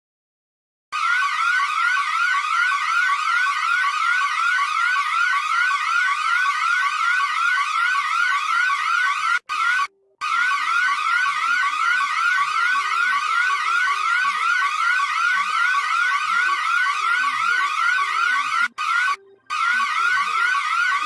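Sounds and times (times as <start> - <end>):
emergency siren rising sweep: 1.0 - 21.0.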